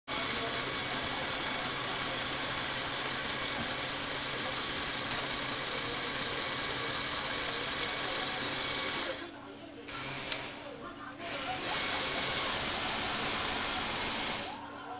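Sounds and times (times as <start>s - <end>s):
toy motor and gears whirring: 0.1s - 9.3s, 9.9s - 14.6s.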